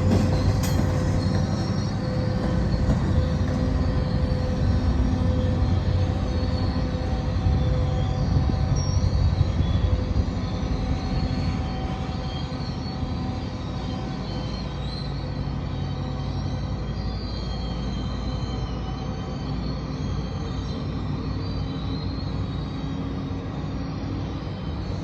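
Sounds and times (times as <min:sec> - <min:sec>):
faint high wheel squeal: 0:00.0 - 0:25.0
rail rumble: 0:00.0 - 0:25.0
train engine drone: 0:00.0 - 0:25.0.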